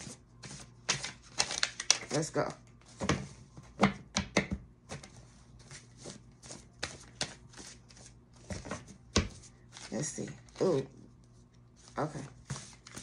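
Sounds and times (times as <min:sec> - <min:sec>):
cards being shuffled: 0:00.4 - 0:03.8, 0:04.9 - 0:10.8, 0:11.8 - 0:13.0.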